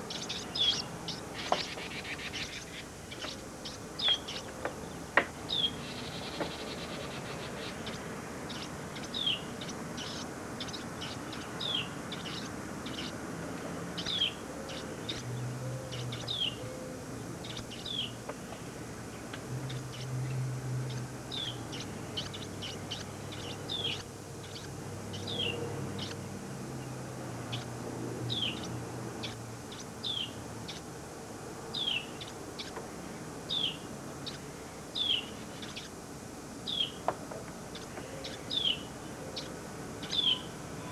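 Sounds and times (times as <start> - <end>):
small bird chirping: 0.0 - 4.9, 5.5 - 13.2, 14.0 - 16.6, 17.4 - 18.5, 19.2 - 26.9, 28.3 - 30.9, 31.7 - 32.8, 33.5 - 36.0, 36.6 - 37.0, 37.7 - 40.9.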